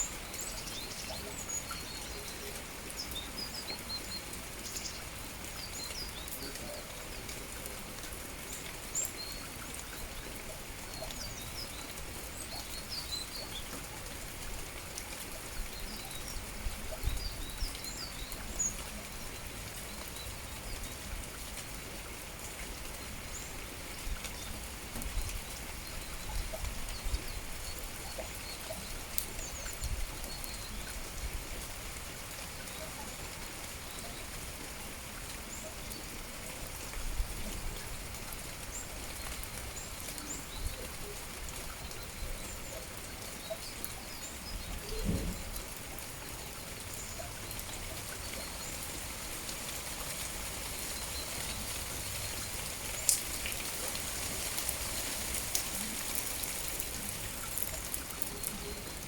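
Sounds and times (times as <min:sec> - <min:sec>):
light rain hissing: 0:00.0 - 0:59.0
songbirds chirping: 0:00.0 - 0:59.0.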